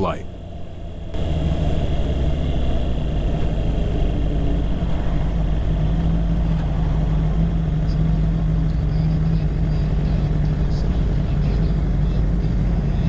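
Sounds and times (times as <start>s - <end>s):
motorcycle engine running: 0.3s - 13.0s.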